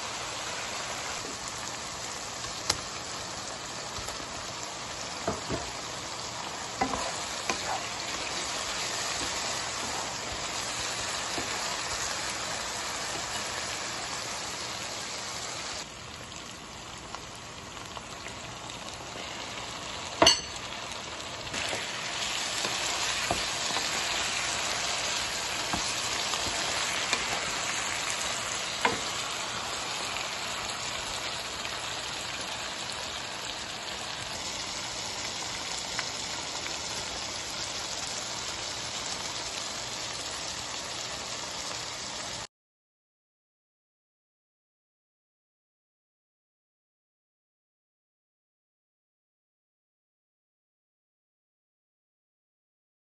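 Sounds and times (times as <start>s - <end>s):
sauce sizzling in a pan: 0.0s - 42.5s.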